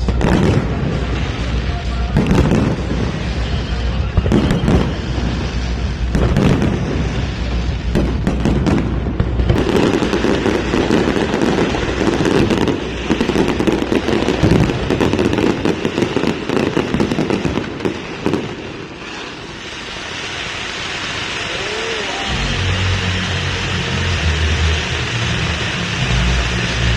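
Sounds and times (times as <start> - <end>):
fireworks bangs and crackles: 0.0 - 26.9
steady background hiss: 0.0 - 26.9.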